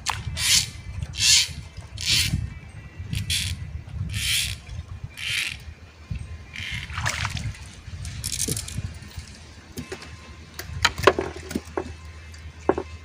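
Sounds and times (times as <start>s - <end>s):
steady low hum: 0.0s - 13.0s
water splashing and sloshing: 0.0s - 13.0s.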